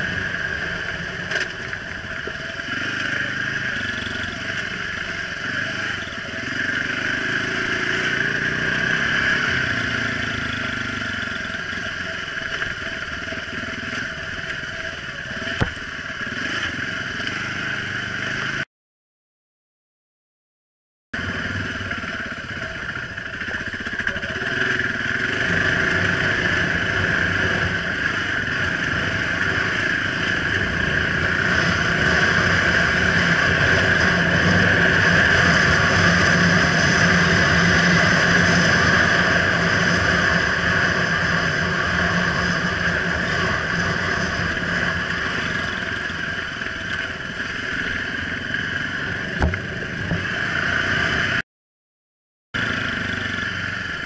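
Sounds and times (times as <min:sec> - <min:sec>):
off-road vehicle engine: 0:00.0 - 0:18.7, 0:21.2 - 0:51.4, 0:52.6 - 0:54.0.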